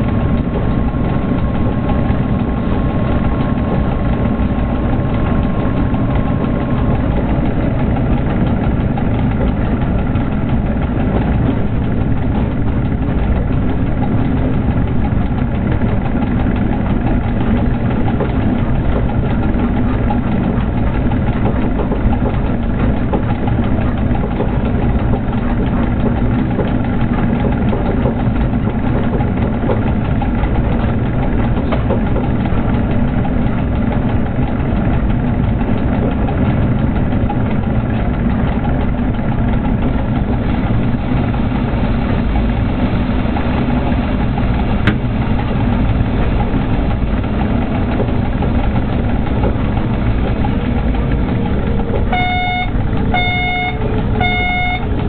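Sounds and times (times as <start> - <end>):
faint steady whines: 0.0 - 55.0
locomotive cab running rumble: 0.0 - 55.0.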